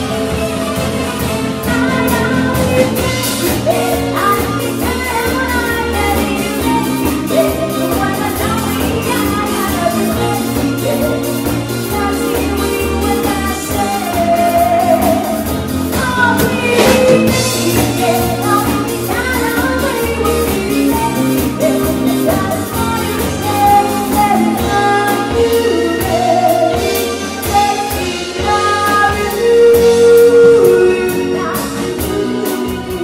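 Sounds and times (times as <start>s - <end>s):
live band playing pop song: 0.0s - 33.0s
person singing: 1.6s - 33.0s.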